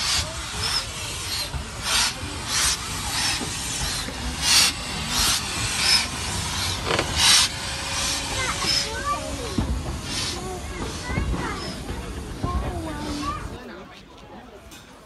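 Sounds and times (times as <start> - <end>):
steam hissing: 0.0 - 13.7
steam locomotive chuffing: 0.0 - 13.9.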